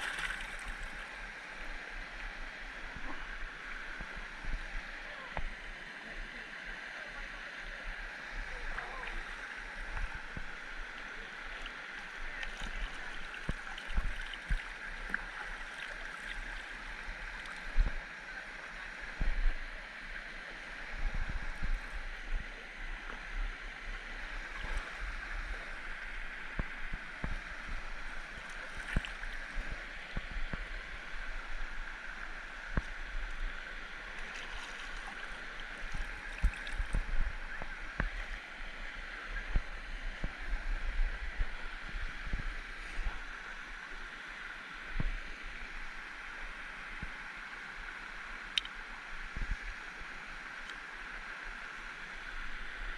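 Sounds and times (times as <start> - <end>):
stream running water: 0.0 - 52.9.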